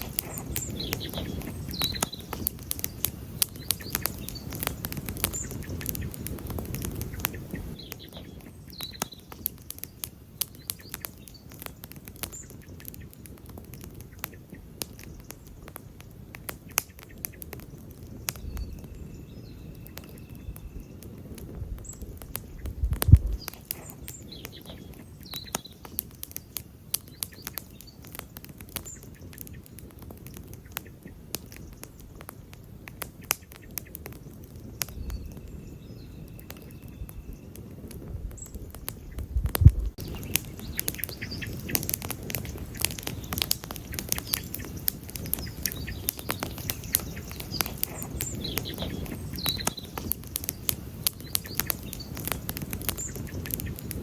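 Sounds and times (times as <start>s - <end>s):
faint bird chirps: 0.0s - 16.0s, 16.8s - 32.2s, 34.6s - 54.0s
campfire crackling and popping: 0.0s - 54.0s.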